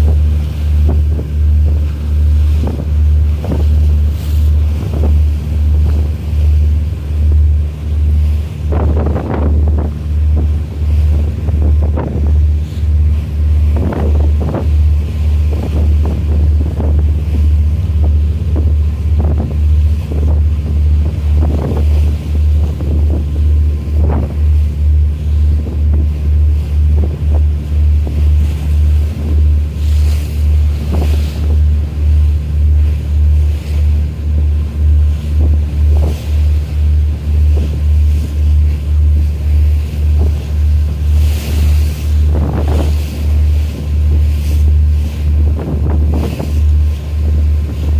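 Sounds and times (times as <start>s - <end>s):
sea noise: 0.0s - 47.9s
ship engine throbbing: 0.0s - 47.9s
wind on microphone: 0.0s - 47.9s.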